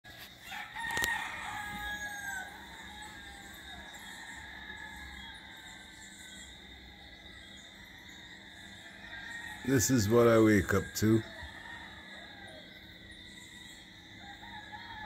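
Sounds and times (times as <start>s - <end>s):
early morning background sound: 0.0s - 15.0s
rooster crowing: 0.2s - 15.0s.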